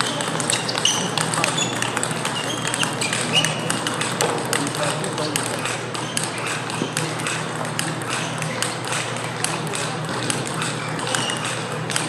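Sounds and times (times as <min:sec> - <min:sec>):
clicks from other tables: 0:00.0 - 0:12.0
table tennis ball clicking: 0:00.0 - 0:12.0.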